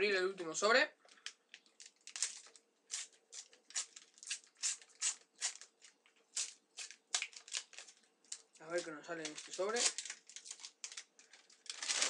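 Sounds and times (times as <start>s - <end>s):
packet wrapper crackling: 1.1s - 12.0s.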